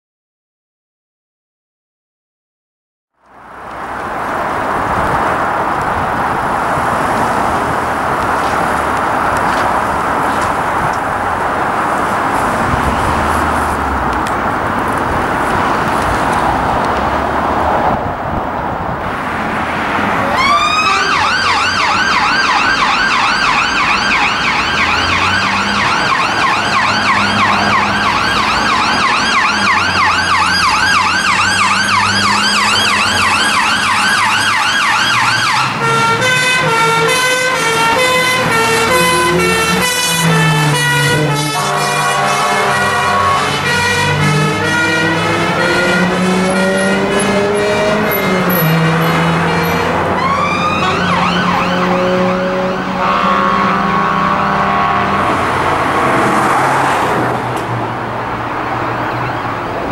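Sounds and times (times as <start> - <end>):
fire engine siren: 3.2 - 59.9.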